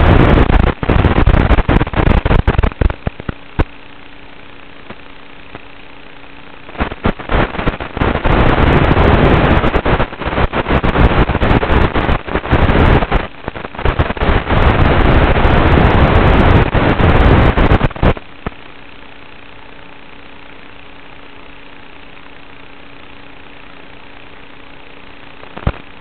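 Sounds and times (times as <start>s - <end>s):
crackling static hiss: 0.0s - 26.0s
steady low hum: 0.0s - 26.0s.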